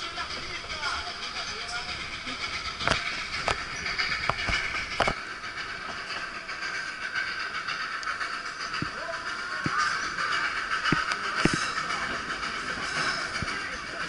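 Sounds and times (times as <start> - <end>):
train rolling on rails: 0.0 - 14.0
wheels clicking over rail joints: 0.0 - 14.0.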